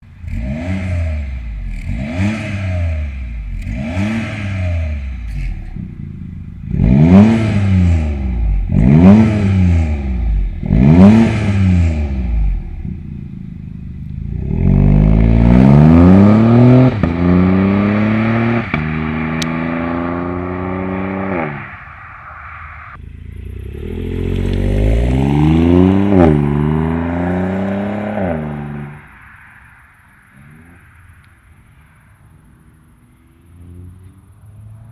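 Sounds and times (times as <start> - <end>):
car engine revving: 0.0 - 31.7.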